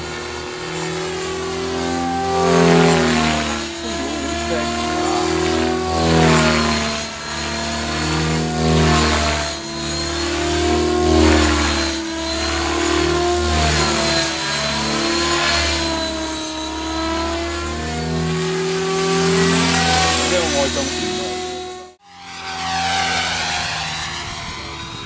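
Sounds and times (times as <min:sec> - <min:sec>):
helicopter rotor hum: 0:00.0 - 0:25.0
rc helicopter motor whine: 0:00.0 - 0:25.0.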